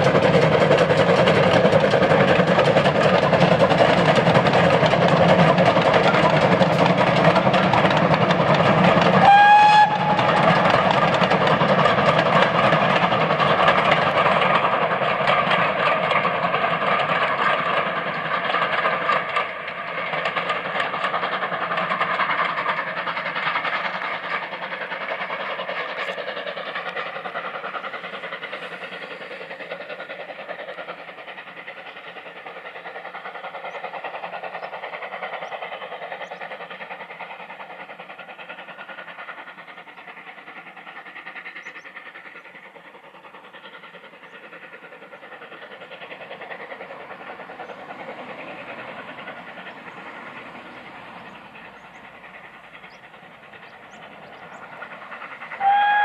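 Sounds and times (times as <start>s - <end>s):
steam train running on rails: 0.0s - 56.0s.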